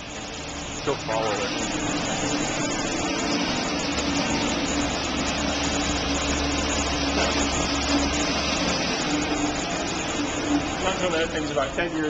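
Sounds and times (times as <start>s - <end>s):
engine running with low rumble: 0.0s - 12.0s.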